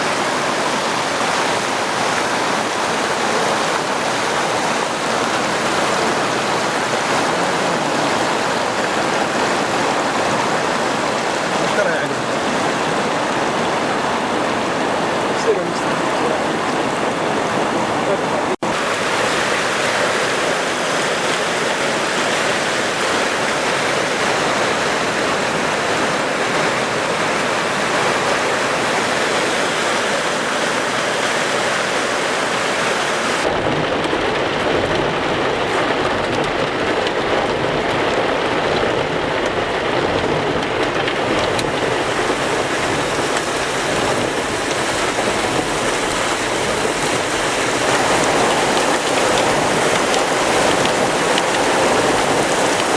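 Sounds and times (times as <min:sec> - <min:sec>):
rushing floodwater: 0:00.0 - 0:52.9.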